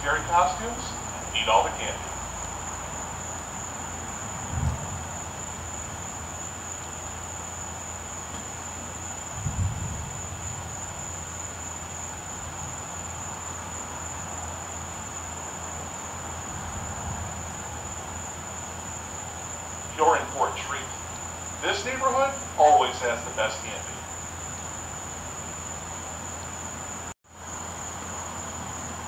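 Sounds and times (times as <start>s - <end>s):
crickets trilling: 0.0s - 29.0s
low hum of blower fan: 0.0s - 29.0s.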